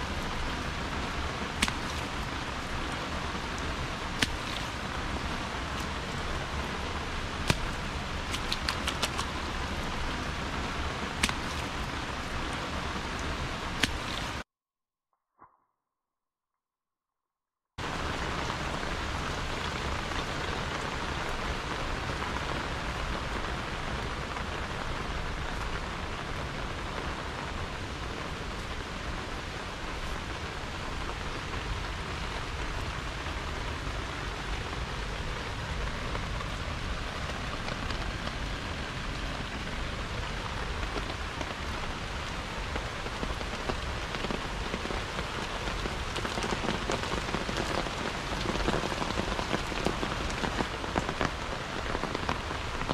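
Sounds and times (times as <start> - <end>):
rain on foliage and paving: 0.0 - 14.4, 17.8 - 52.9.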